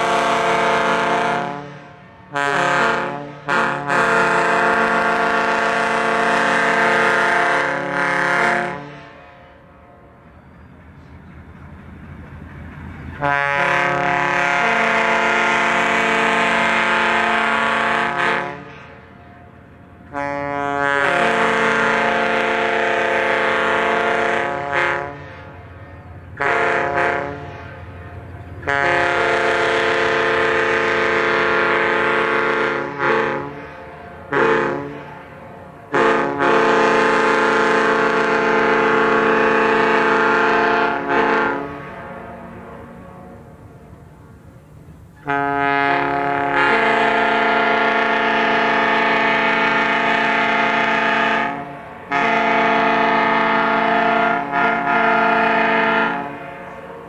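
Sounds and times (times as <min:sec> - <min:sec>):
multi-note air horn blasts: 0:00.0 - 0:09.1, 0:13.2 - 0:18.8, 0:20.1 - 0:25.2, 0:26.4 - 0:27.5, 0:28.6 - 0:35.1, 0:35.9 - 0:43.4, 0:45.2 - 0:57.0.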